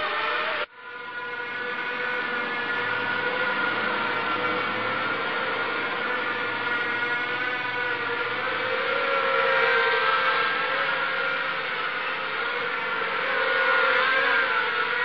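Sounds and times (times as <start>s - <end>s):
quadcopter propellers whirring: 0.0s - 15.0s.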